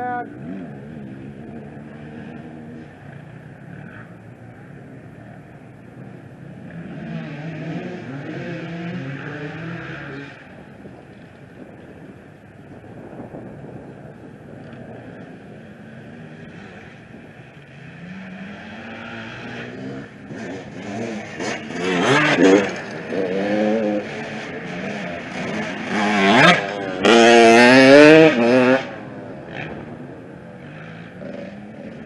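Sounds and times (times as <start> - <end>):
motorcycles revving past: 0.0 - 32.0.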